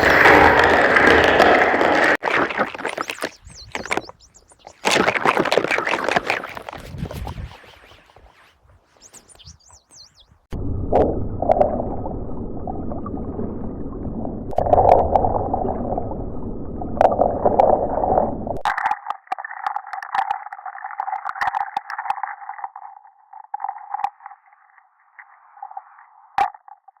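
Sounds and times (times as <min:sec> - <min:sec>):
water bubbling and gurgling: 0:00.0 - 0:08.0, 0:10.5 - 0:26.6.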